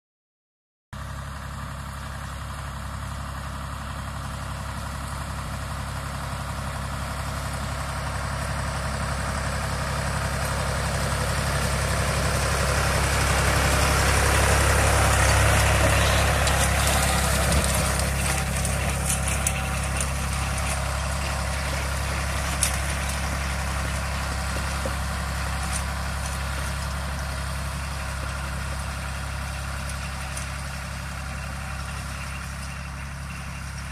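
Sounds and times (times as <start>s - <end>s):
tractor diesel engine running: 1.0s - 33.9s.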